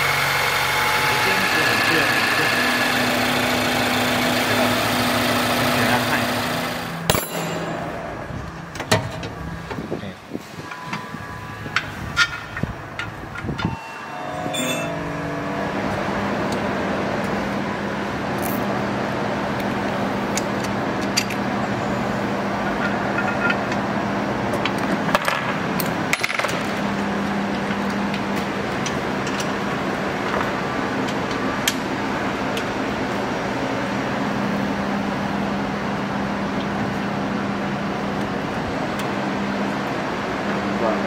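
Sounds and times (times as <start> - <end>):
steady mechanical hum: 0.0 - 41.0.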